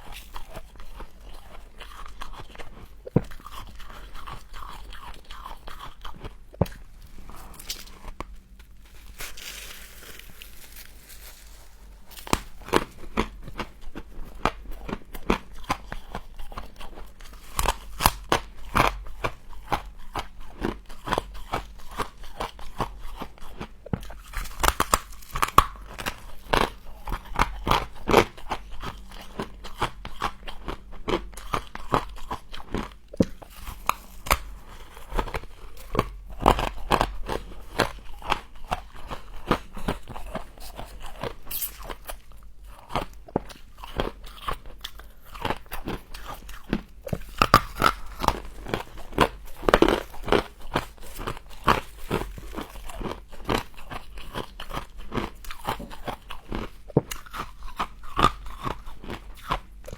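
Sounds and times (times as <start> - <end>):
frost being bitten and chewed: 0.0 - 11.0, 11.7 - 59.9.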